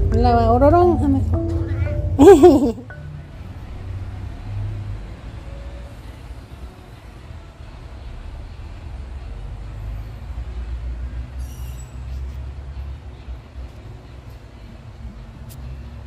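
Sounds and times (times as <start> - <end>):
low rumble of traffic: 0.0 - 16.0.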